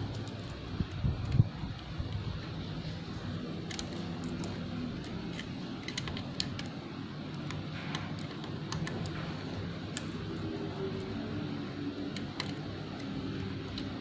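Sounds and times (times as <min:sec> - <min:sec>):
low background hum: 0:00.0 - 0:14.0
typing on laptop keyboard: 0:00.0 - 0:14.0.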